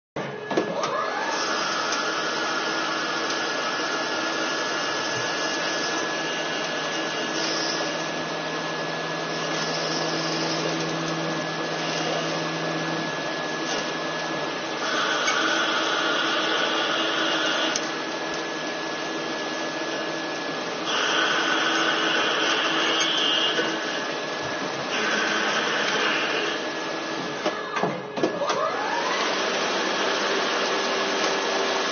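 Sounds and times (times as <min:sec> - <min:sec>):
lathe machine whirring: 0:00.3 - 0:27.8, 0:28.4 - 0:31.9.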